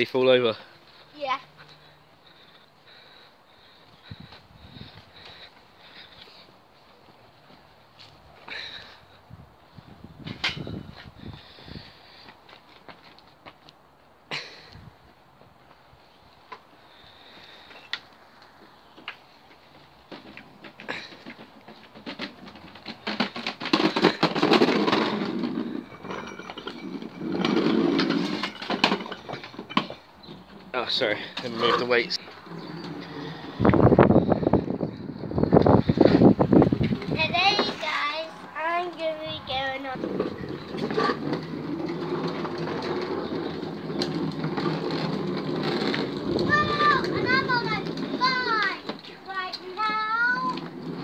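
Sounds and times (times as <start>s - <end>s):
plastic wheels rolling on concrete: 0.0s - 51.0s.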